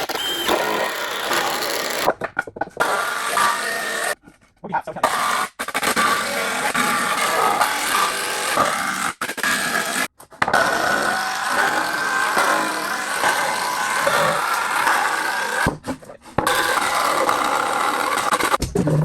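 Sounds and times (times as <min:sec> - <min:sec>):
power tool cutting wood: 0:00.0 - 0:02.1, 0:02.8 - 0:04.2, 0:05.0 - 0:15.8, 0:16.4 - 0:18.6.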